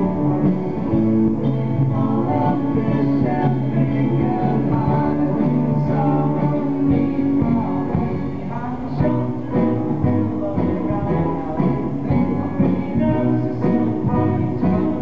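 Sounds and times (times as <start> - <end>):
buskers playing live music: 0.0 - 15.0
guitar: 0.0 - 15.0.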